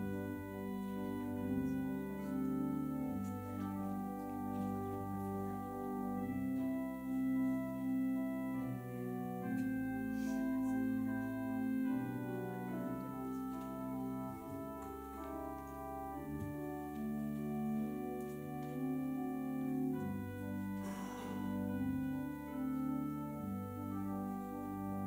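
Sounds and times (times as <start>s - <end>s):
church organ playing chords: 0.0s - 25.0s.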